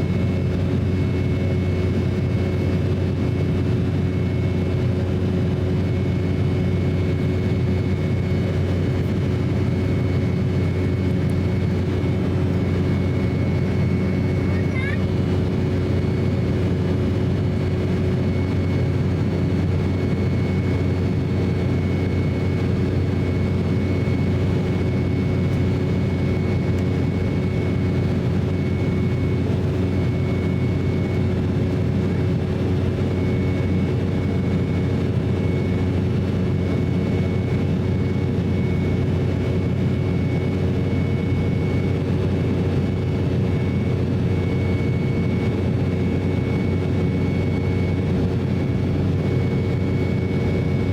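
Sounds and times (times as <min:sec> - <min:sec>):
jet engine rumble and airflow: 0:00.0 - 0:50.9.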